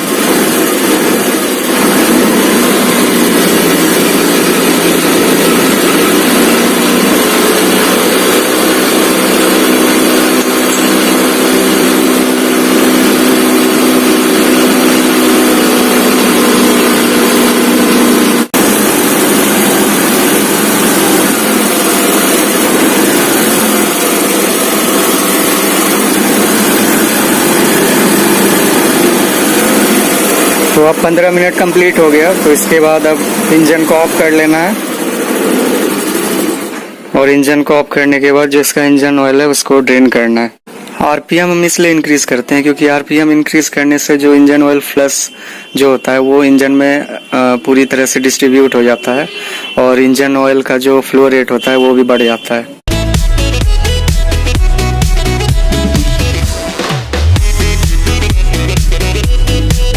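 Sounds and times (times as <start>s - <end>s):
scooter engine at raised revs: 0.0s - 37.1s, 42.5s - 49.8s, 51.6s - 59.9s.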